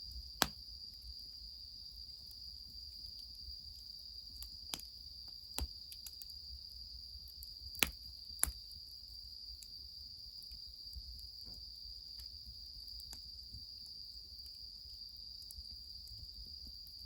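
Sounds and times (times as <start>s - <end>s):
crickets trilling: 0.0s - 17.0s
wood fire crackles: 0.0s - 17.0s.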